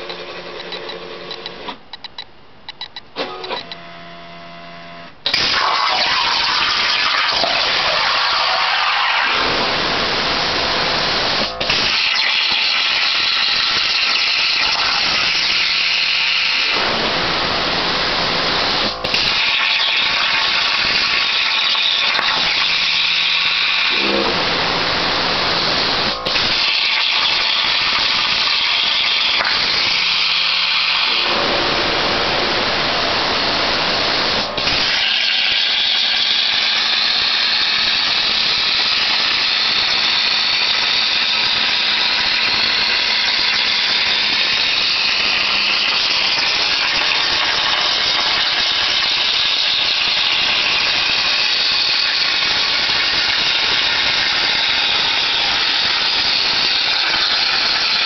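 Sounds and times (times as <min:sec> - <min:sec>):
plasma torch hissing: 0:05.2 - 0:58.0.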